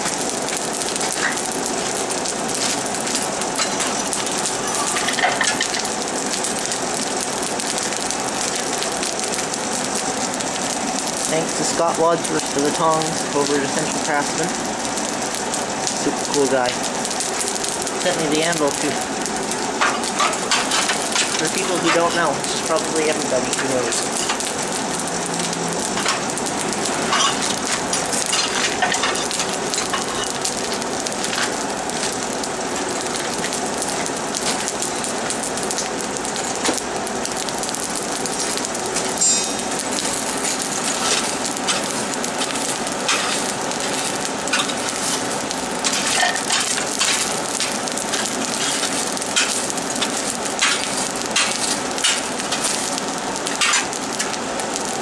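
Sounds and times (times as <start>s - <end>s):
forge fire rushing and crackling: 0.0s - 55.0s.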